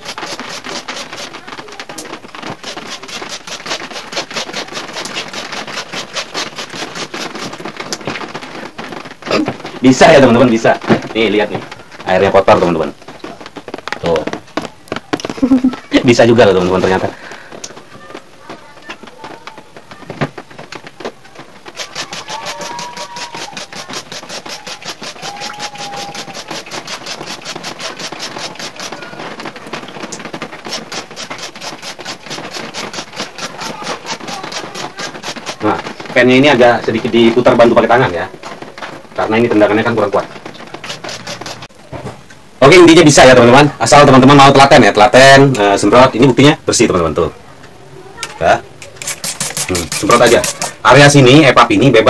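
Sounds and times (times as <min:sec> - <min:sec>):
spray bottle squirting water: 0:00.0 - 0:19.8, 0:20.4 - 0:37.9, 0:39.2 - 0:41.7, 0:48.8 - 0:51.3.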